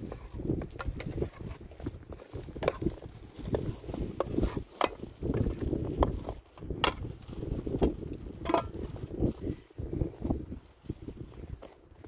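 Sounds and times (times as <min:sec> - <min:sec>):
low fire rumble: 0:00.0 - 0:12.0.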